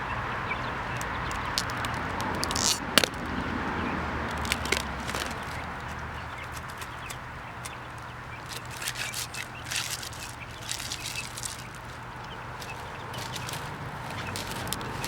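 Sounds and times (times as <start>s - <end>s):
light clicks and rustles: 0.9s - 3.3s, 4.2s - 15.0s.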